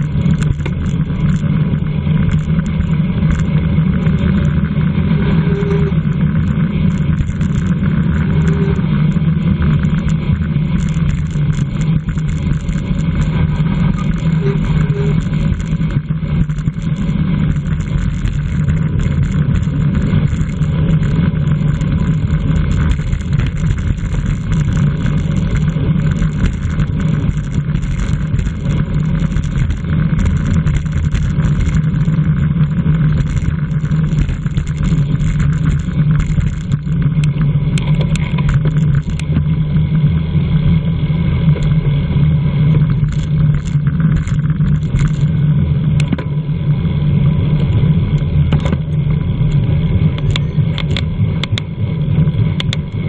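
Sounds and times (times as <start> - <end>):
tyre and road noise: 0.0 - 53.0.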